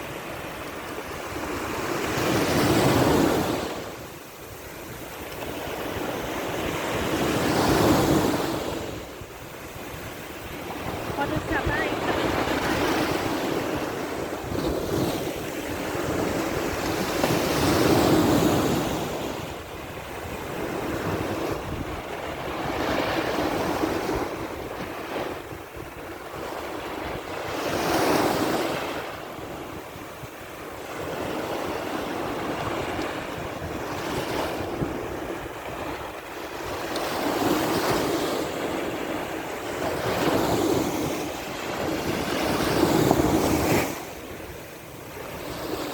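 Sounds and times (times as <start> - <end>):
waves breaking on shore: 0.0 - 45.9.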